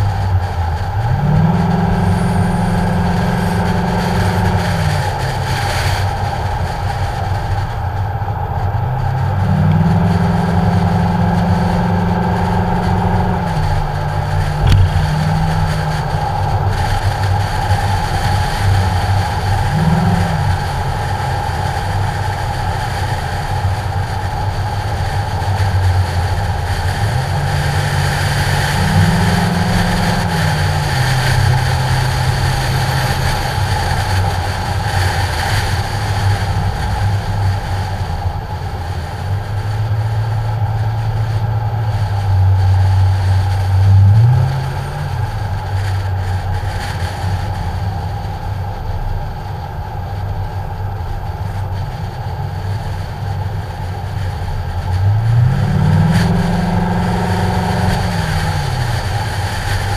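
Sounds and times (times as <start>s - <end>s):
car engine revving: 0.0s - 59.9s
wind noise on microphone: 0.0s - 59.9s.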